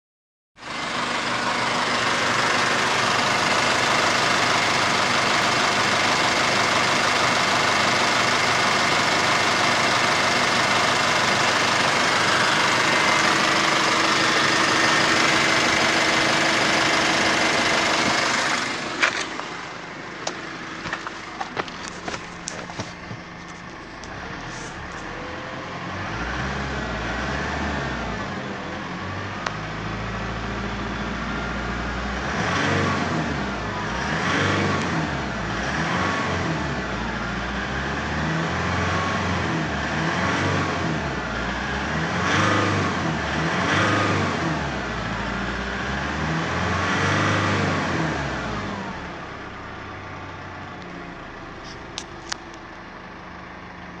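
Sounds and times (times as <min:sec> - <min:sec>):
diesel engine idling and revving: 0:00.6 - 0:54.0.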